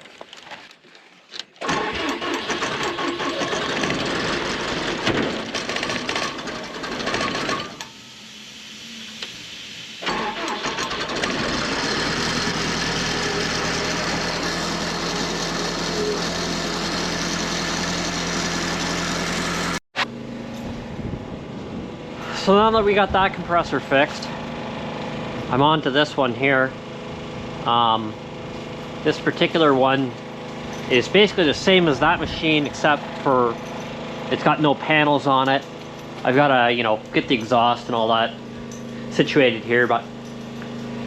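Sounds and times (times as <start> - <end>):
diesel engine starting and running: 1.4 - 41.0.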